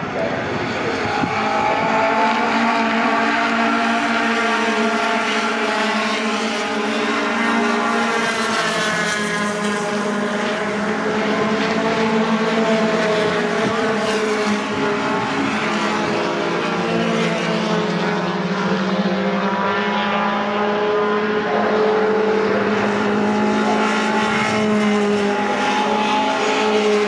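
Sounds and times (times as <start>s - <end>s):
racing truck engines passing: 0.0s - 27.0s.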